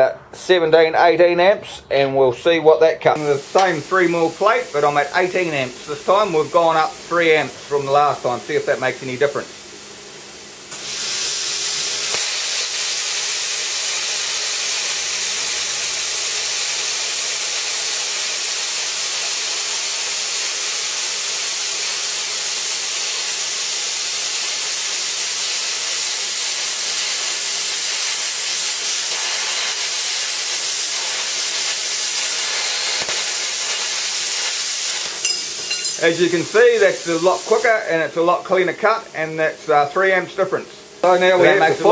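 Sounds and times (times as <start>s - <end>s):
plasma cutter hissing: 3.2s - 41.9s.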